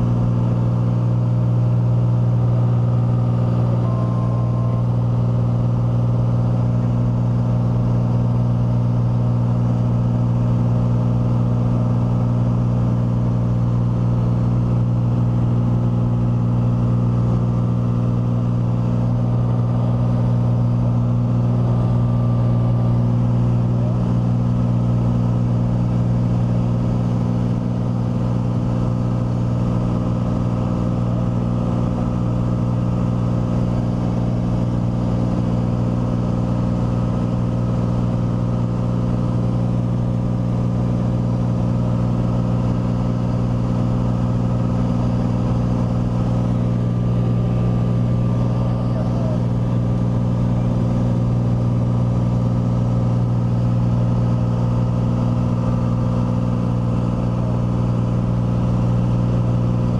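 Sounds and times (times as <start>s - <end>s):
light plane engine droning: 0.0s - 59.9s.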